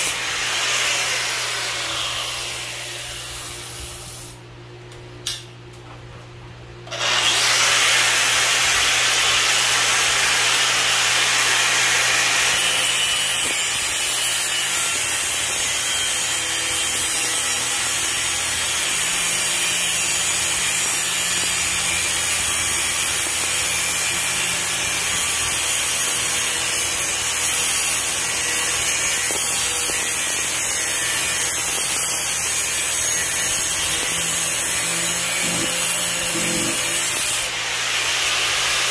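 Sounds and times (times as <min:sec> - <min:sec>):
angle grinder cutting pipe: 0:00.0 - 0:04.4, 0:06.9 - 0:38.9.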